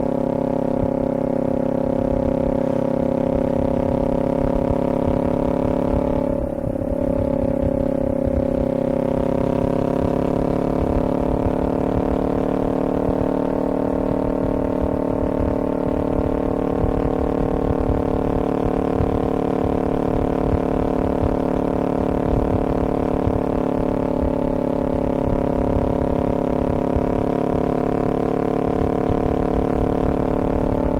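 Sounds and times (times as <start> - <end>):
vehicle engine running: 0.0 - 30.9.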